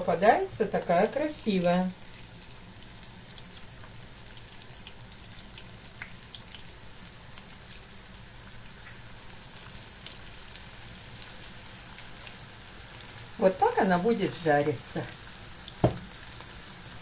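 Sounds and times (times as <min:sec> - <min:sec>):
fish frying in oil: 0:00.0 - 0:17.0.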